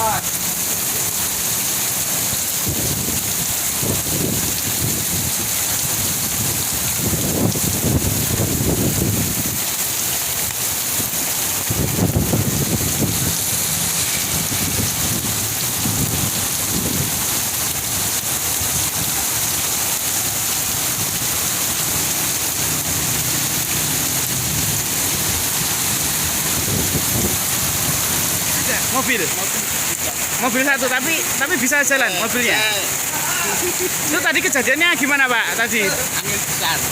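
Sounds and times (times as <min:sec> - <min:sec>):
heavy rain: 0:00.0 - 0:36.9.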